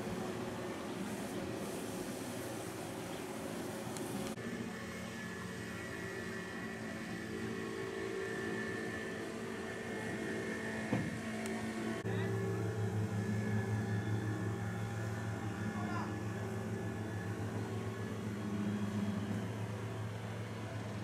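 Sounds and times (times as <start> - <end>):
low machinery hum: 0.0 - 21.0.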